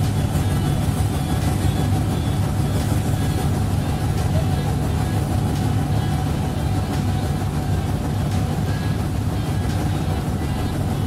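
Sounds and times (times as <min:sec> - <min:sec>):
boat engine drone: 0:00.0 - 0:11.0
choppy water: 0:00.0 - 0:11.0.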